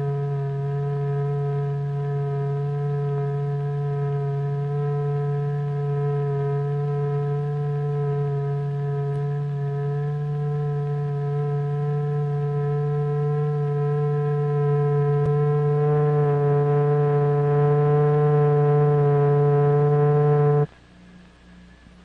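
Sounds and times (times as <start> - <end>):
steady electronic tone: 0.0 - 20.7
faint hum: 0.0 - 22.0.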